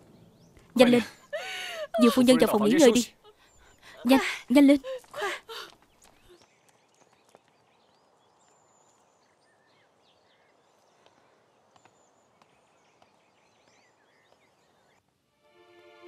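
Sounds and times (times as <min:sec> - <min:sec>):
birds chirping: 0:00.0 - 0:15.1.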